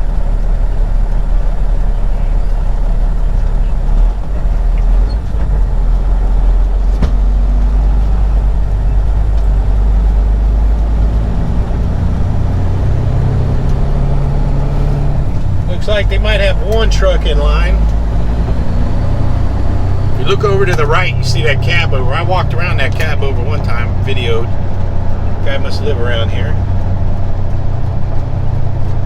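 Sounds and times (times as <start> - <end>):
diesel truck engine rumbling: 0.0 - 29.0.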